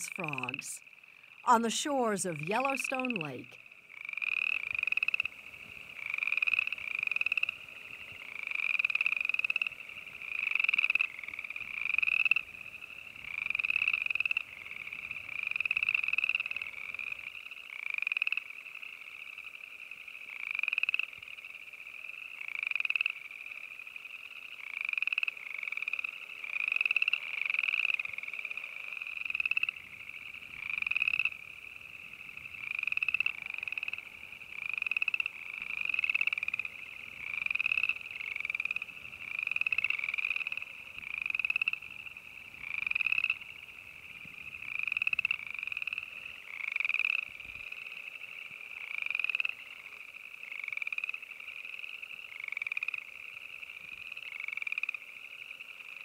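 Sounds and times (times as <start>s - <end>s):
frogs trilling in chorus: 0.0s - 56.0s.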